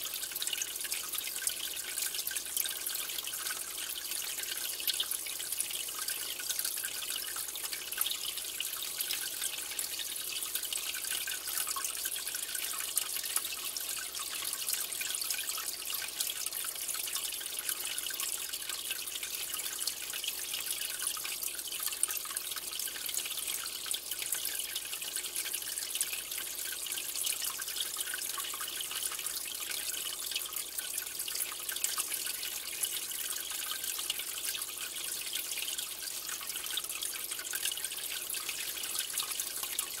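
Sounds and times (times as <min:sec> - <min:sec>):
aquarium water trickling and bubbling: 0:00.0 - 0:40.0
tiny water drips crackling: 0:00.0 - 0:40.0.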